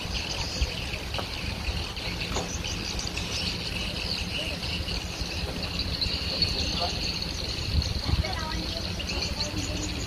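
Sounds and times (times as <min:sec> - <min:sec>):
insects chirring: 0:00.0 - 0:10.0
low steady rumble: 0:00.0 - 0:10.0.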